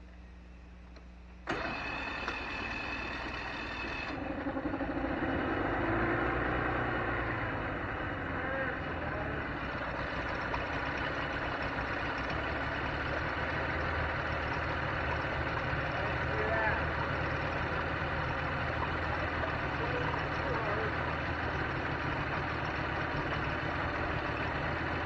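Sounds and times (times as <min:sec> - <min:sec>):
outboard motor running: 0:01.5 - 0:25.0.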